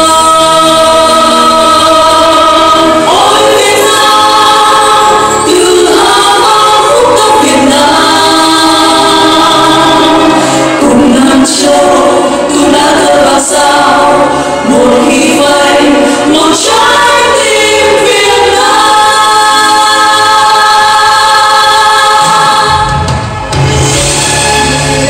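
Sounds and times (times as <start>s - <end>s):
voices singing together: 0.0s - 23.4s
backing music: 0.0s - 25.0s.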